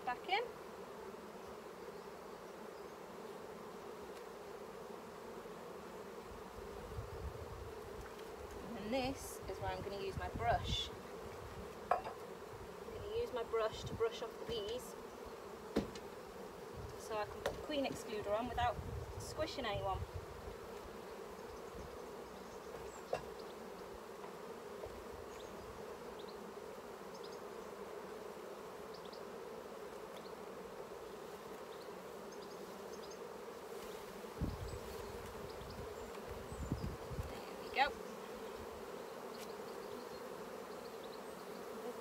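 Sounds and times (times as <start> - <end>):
bees humming drone: 0.0 - 42.0.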